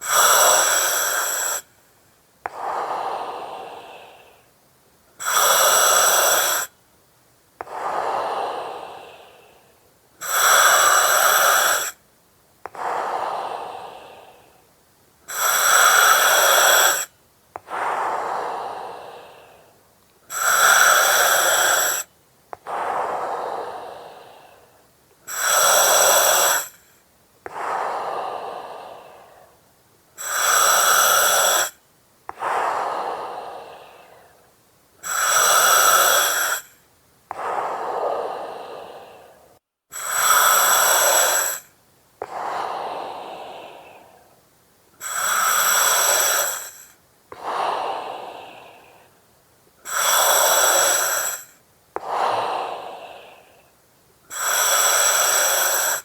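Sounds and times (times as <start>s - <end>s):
breathing through oxygen mask: 0.0s - 1.7s, 2.5s - 4.5s, 5.2s - 6.7s, 7.6s - 12.0s, 12.7s - 14.7s, 15.3s - 29.6s, 30.2s - 44.4s, 45.0s - 49.2s, 49.8s - 53.7s, 54.3s - 56.0s.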